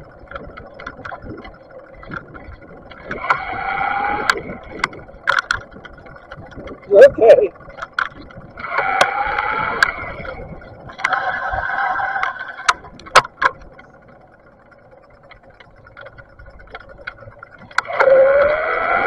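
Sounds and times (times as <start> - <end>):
bike knocks and rattles: 0.0 - 18.5
bike coasting: 0.0 - 19.0
electric bike motor whine: 0.0 - 19.0.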